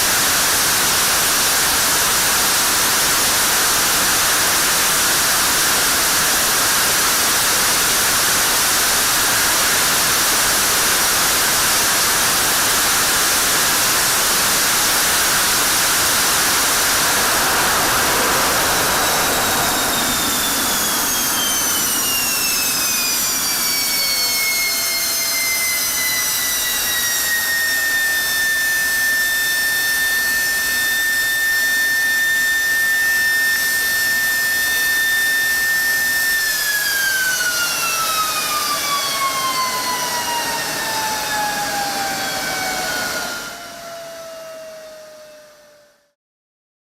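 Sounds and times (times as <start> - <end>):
jet engine roaring: 0.0 - 45.8
turbine whine: 0.0 - 46.2.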